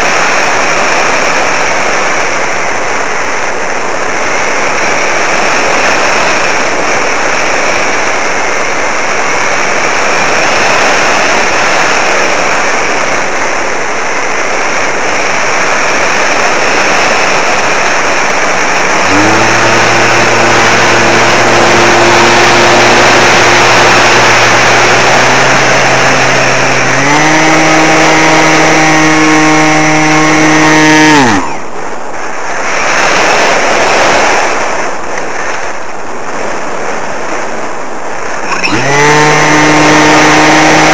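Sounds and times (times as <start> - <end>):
electric model aircraft motor whine: 0.0 - 31.9, 38.4 - 40.9
loud steady rushing noise: 0.0 - 40.9.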